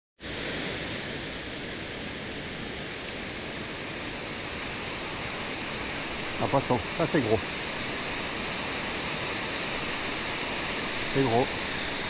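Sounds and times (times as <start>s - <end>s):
river current rushing over riffle: 0.2s - 12.0s.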